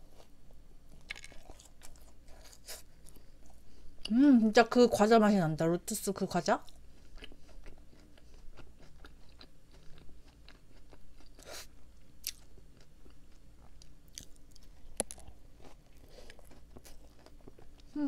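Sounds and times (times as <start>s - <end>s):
person chewing crunchy cookie: 0.0s - 4.1s, 6.6s - 18.0s.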